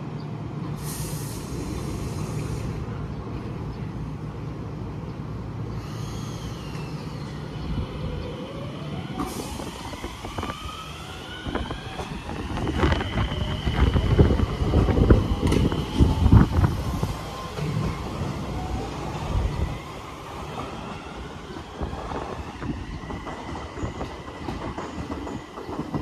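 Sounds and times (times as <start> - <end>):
train wheels rumbling and clattering: 0.0 - 26.0.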